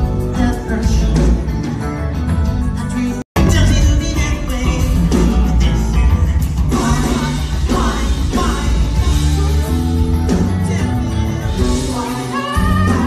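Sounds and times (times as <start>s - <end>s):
live band music: 0.0s - 13.0s
man singing lead vocals: 0.0s - 13.0s.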